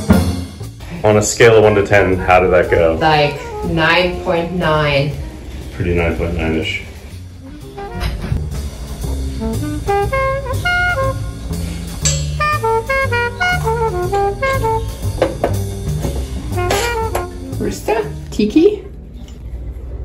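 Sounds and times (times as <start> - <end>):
bass and drums: 0.0 - 17.8
jazz horn melody: 0.0 - 18.9.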